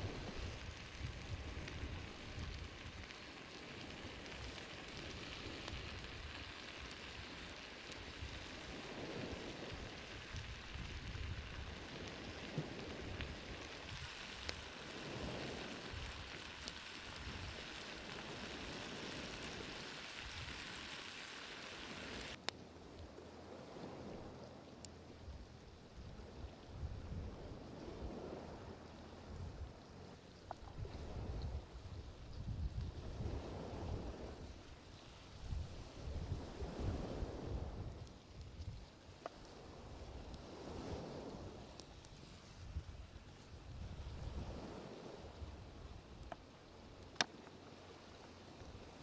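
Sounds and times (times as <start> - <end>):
sizzling hiss with pops: 0.0 - 23.1, 23.8 - 49.0.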